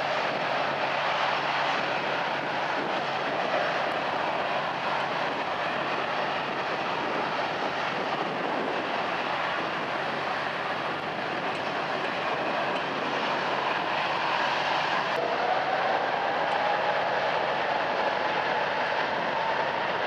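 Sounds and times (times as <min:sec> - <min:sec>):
jet engine whine rising: 0:00.0 - 0:20.0
jet engines running: 0:00.0 - 0:20.0.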